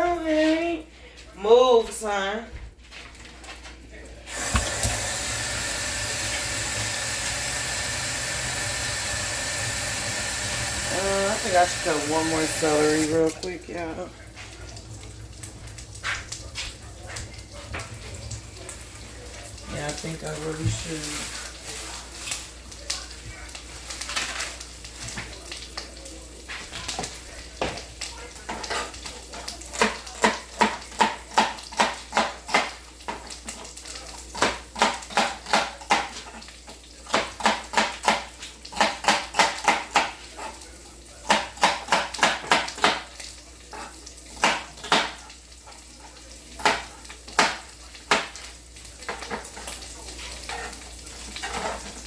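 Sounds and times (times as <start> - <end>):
skillet sizzling: 0.2 - 52.0.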